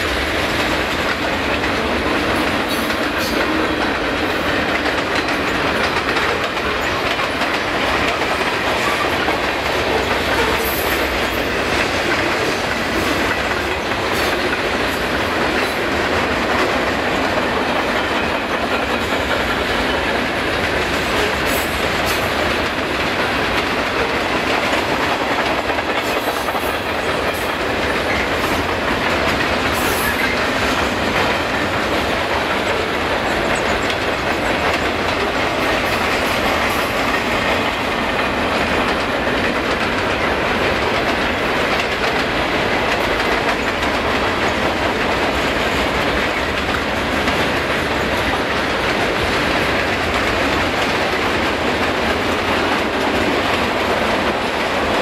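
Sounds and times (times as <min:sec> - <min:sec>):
clickety-clack over rail joints: 0:00.0 - 0:55.0
freight train rolling past: 0:00.0 - 0:55.0.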